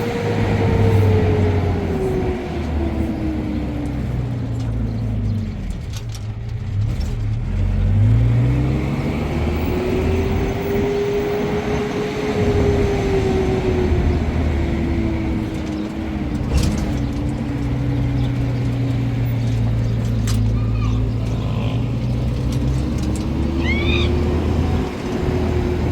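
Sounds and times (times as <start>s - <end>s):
vehicle engine under load: 0.0s - 25.9s.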